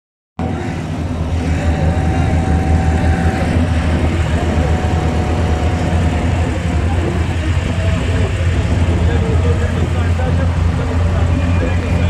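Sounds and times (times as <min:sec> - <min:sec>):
vehicle rumbling: 0:00.4 - 0:12.0.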